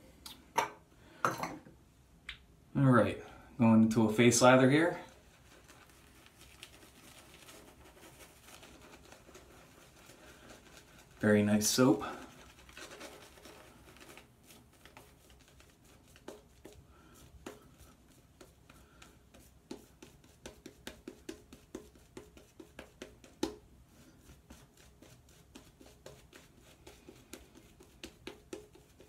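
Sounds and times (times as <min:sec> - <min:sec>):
shaving brush wet strokes: 0:04.1 - 0:29.0.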